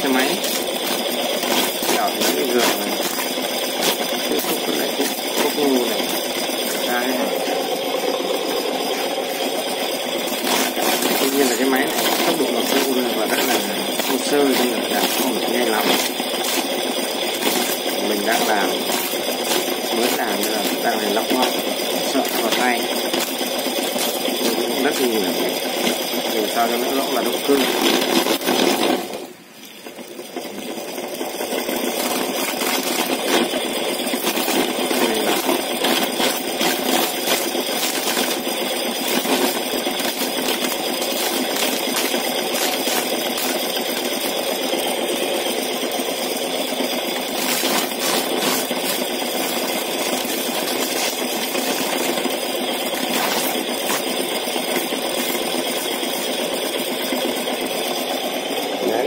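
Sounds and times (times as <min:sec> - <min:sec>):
corn kernels rattling off sheller: 0:00.0 - 0:59.0.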